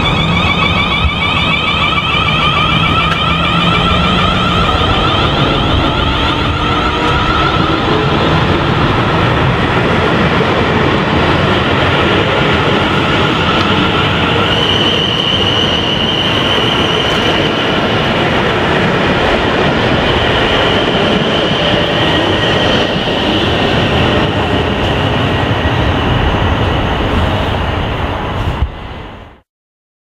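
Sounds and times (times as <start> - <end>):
high train whine: 0.0 - 29.4
train wheels rumbling on rail: 0.0 - 29.4.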